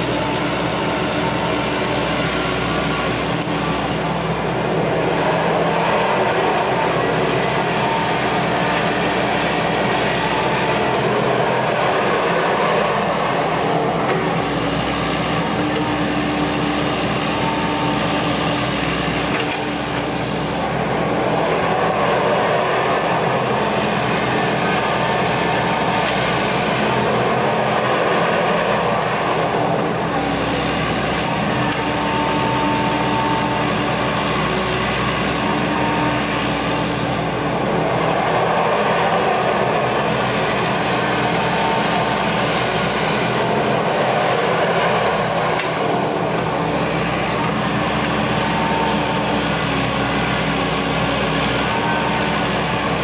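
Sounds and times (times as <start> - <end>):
excavator diesel engine running: 0.0 - 53.0
hydraulic whine: 0.0 - 53.0.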